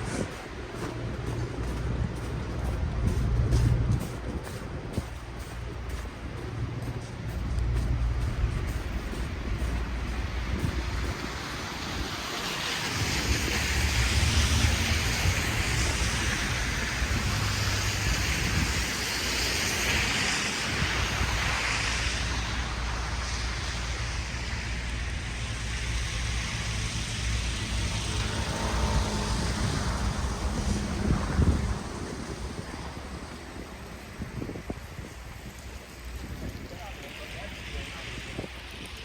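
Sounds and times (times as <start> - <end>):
low rumble of vehicles: 0.0 - 39.0.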